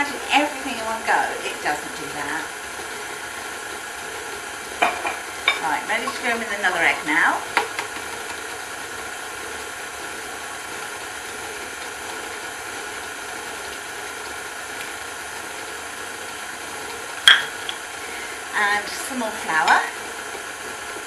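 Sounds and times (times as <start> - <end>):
stand mixer whirring: 0.0 - 21.0.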